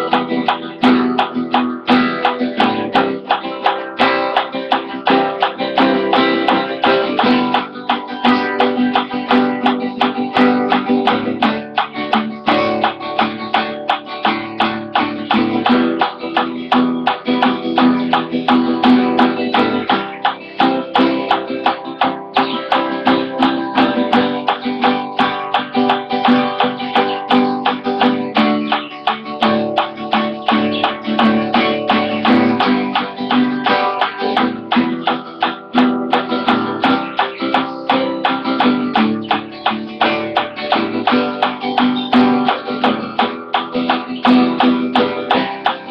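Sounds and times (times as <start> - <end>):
acoustic guitar strumming: 0.0 - 45.9.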